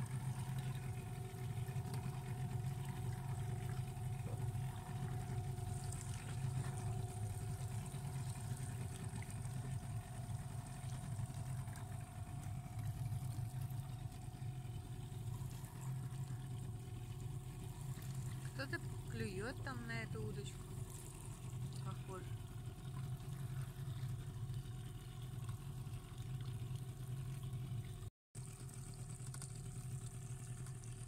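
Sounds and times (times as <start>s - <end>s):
boat motor humming: 0.0s - 31.0s
water wash: 0.0s - 31.0s.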